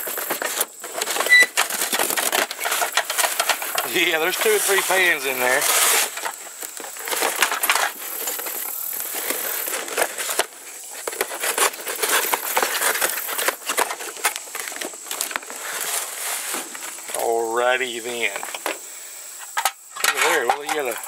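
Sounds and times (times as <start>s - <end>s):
cardboard tearing: 0.0s - 17.3s.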